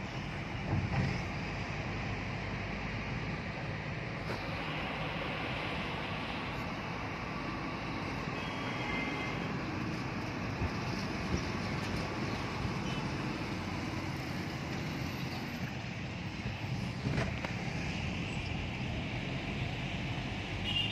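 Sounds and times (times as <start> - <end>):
passing traffic: 0.0 - 20.9
tyre and engine noise: 0.0 - 20.9.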